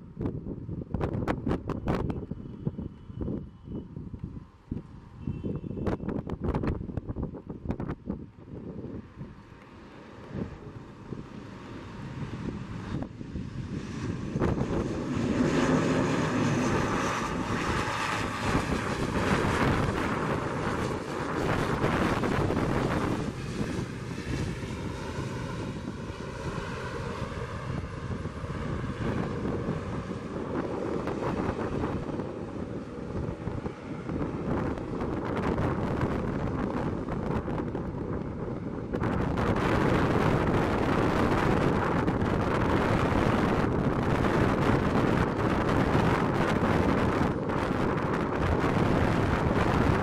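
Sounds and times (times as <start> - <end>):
wind on microphone: 0.0 - 9.5, 10.2 - 50.0
turboprop engines running: 0.0 - 50.0.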